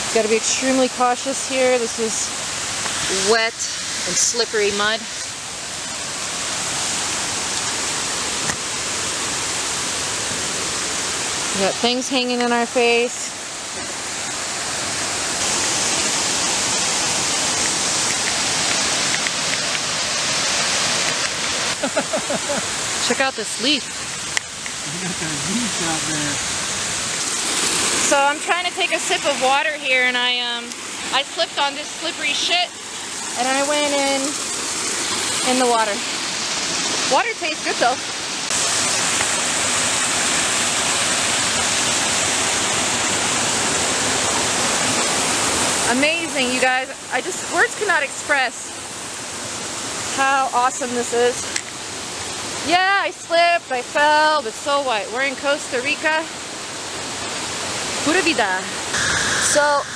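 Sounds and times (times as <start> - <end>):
waterfall over rocks: 0.0 - 59.9.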